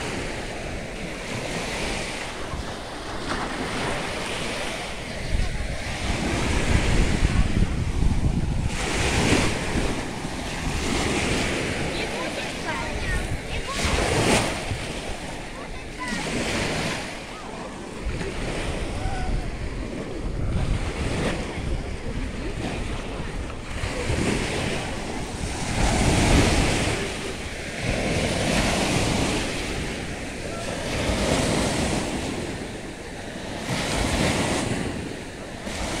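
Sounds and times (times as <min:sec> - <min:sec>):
small waves washing onto sand: 0:00.0 - 0:36.0
wind buffeting microphone: 0:00.0 - 0:36.0.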